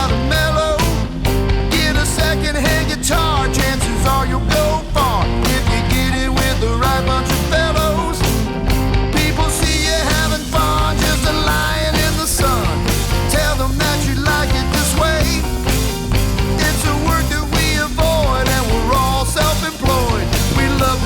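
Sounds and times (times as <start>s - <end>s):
person singing: 0.0s - 8.5s, 9.1s - 21.0s
bass line: 0.0s - 21.0s
drum beat: 0.0s - 21.0s.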